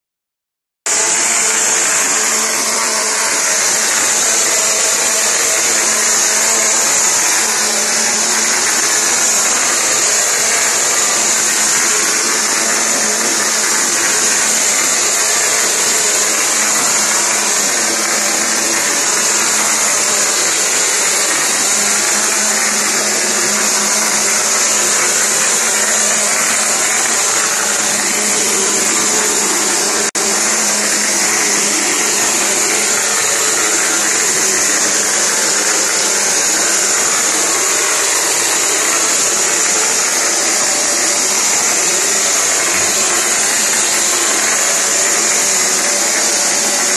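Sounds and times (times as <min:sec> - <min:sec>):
hiss of spray gun blasting mortar: 0:00.9 - 0:46.9.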